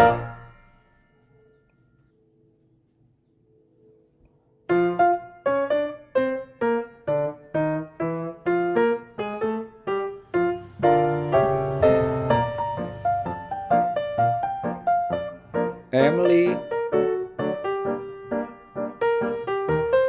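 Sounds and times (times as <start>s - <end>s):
piano music: 0.0s - 2.7s, 3.4s - 20.0s.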